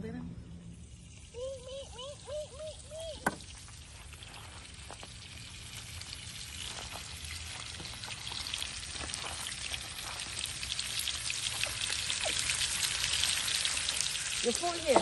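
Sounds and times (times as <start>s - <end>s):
food sizzling in a frying pan: 0.6s - 1.6s, 2.8s - 15.0s.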